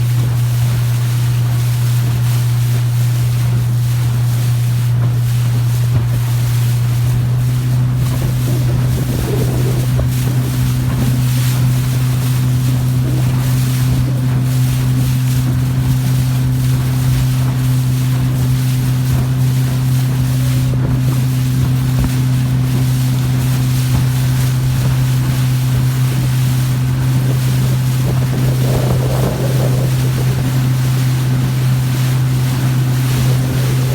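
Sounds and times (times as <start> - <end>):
motorboat engine running: 0.0 - 33.9
water noise: 0.0 - 33.9
wind buffeting microphone: 4.9 - 33.9.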